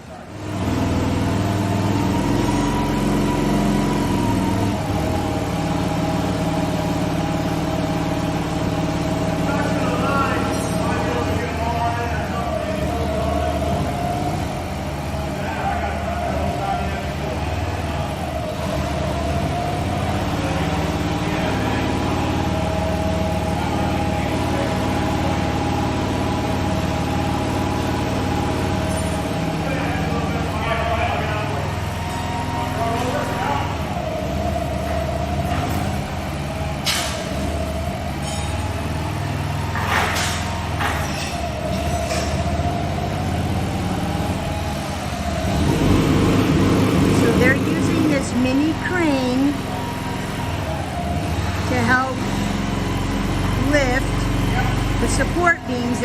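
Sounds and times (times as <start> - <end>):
construction machinery engine running: 0.0 - 56.0.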